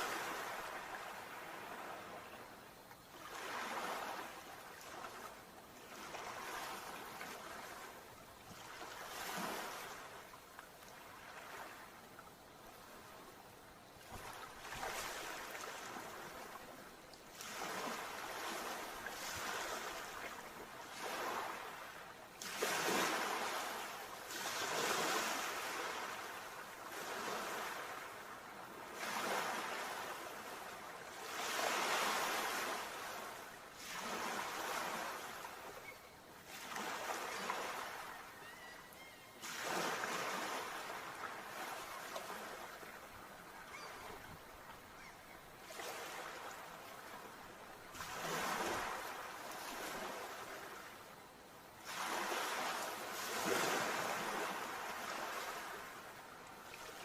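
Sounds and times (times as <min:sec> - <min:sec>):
sea waves breaking: 0:00.0 - 0:02.4, 0:03.2 - 0:10.4, 0:11.0 - 0:12.0, 0:14.0 - 0:35.9, 0:36.5 - 0:38.7, 0:39.4 - 0:50.8, 0:51.8 - 0:57.0.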